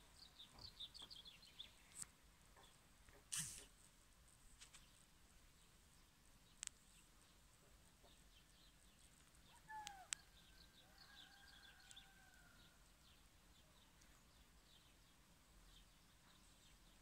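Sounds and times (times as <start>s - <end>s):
small birds chirping faintly: 0.0s - 17.0s.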